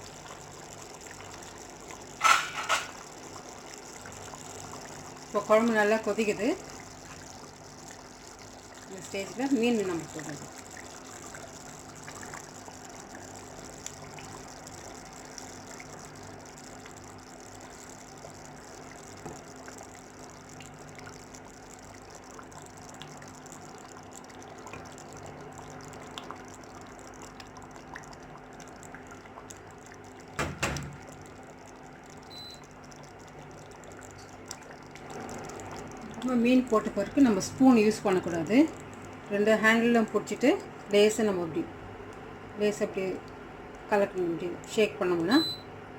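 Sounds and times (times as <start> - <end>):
curry bubbling in pan: 0.0 - 41.4
faint steady hum: 0.0 - 45.9.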